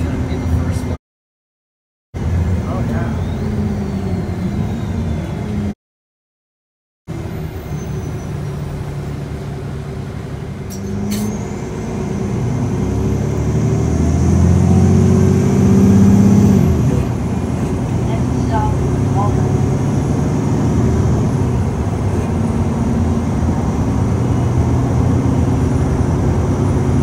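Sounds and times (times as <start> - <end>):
bus engine drone: 0.0 - 1.0, 2.2 - 5.8, 7.1 - 27.0.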